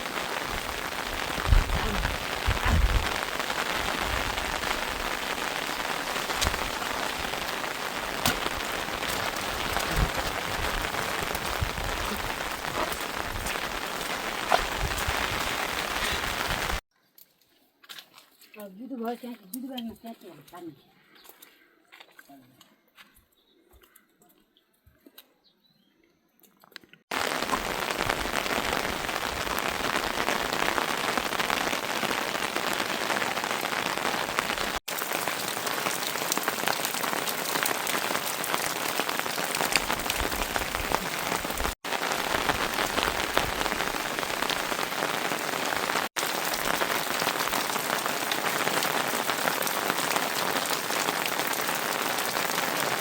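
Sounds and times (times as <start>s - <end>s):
steady rain falling: 0.0s - 16.8s, 27.1s - 53.0s.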